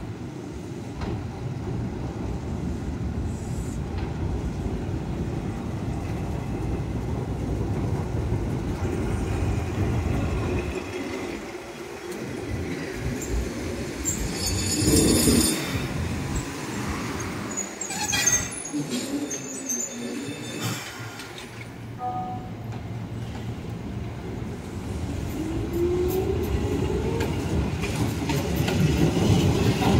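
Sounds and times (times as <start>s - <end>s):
tram wheels rumbling on rails: 0.0s - 29.9s.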